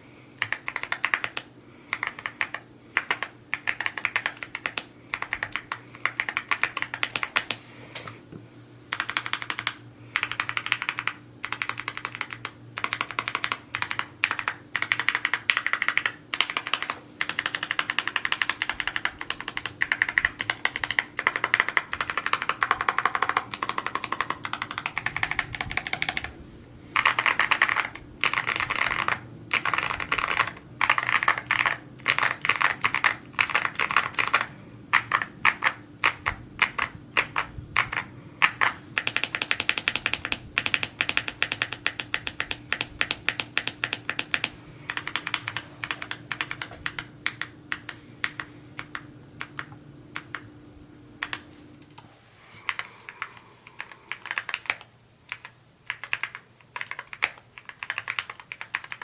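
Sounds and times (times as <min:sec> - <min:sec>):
fast typing on mechanical keyboard: 0:00.4 - 0:07.6, 0:08.9 - 0:50.5, 0:51.2 - 0:51.5, 0:52.7 - 0:59.0.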